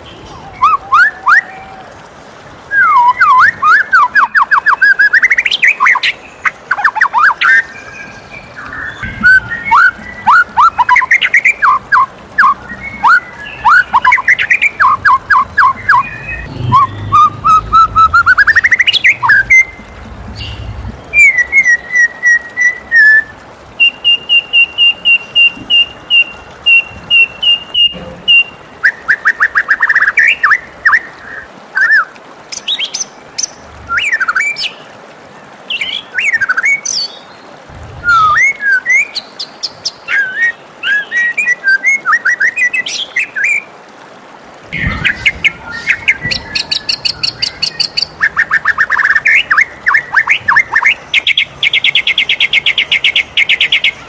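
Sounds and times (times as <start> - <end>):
bird singing whistled phrases: 0.3 - 1.8, 2.7 - 19.8, 20.4 - 33.0, 38.0 - 39.3, 40.1 - 43.7, 44.8 - 54.0.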